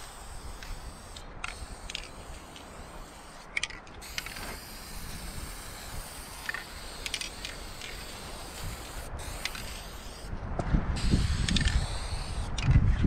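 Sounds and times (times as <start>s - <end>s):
spray can clicks and rattles: 0.0s - 10.3s, 11.0s - 12.8s
spray paint can hissing: 0.0s - 10.3s, 11.0s - 12.7s.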